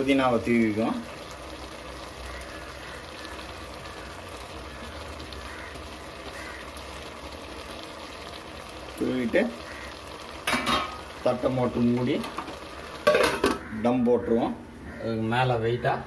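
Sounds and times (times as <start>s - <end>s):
food simmering in a pot: 0.0s - 15.3s.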